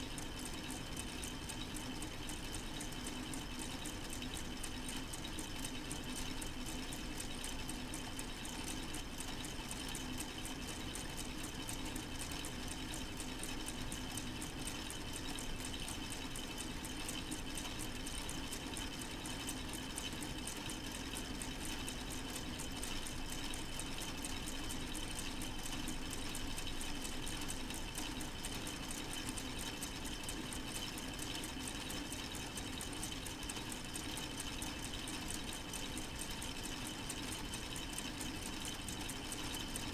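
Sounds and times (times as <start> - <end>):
model engine clicking and rattling: 0.0 - 39.9.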